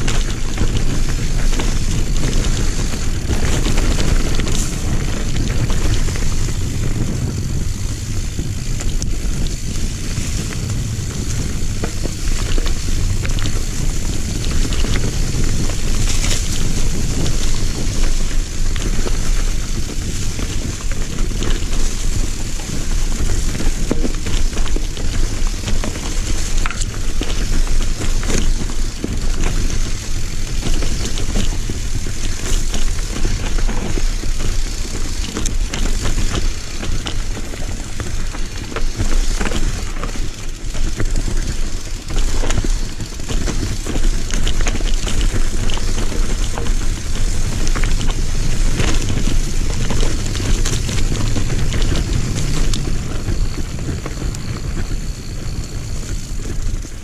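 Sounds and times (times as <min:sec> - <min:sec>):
bike rattling over bumps: 0:00.0 - 0:57.0
tyres on dirt and leaves: 0:00.0 - 0:57.0.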